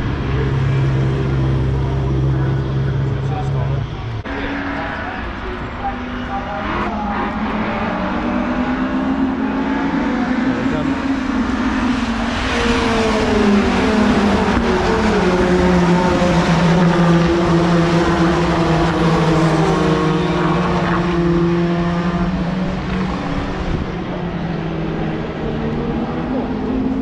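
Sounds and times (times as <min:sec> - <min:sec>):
racing trucks passing by: 0:00.0 - 0:27.0.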